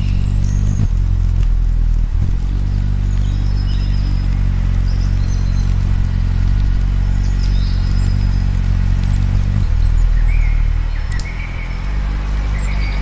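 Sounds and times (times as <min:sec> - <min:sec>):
loud low steady drone: 0:00.0 - 0:13.0.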